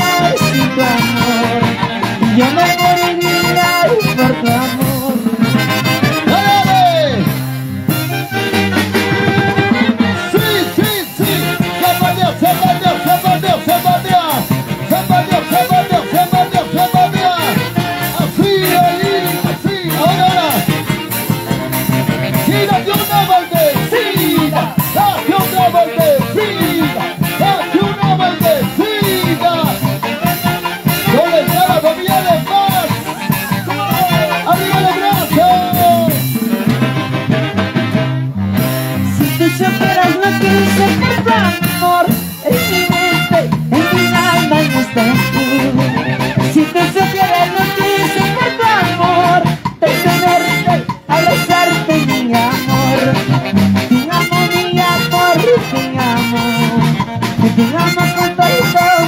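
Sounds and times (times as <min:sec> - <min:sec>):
live band playing dance music: 0:00.0 - 0:59.0.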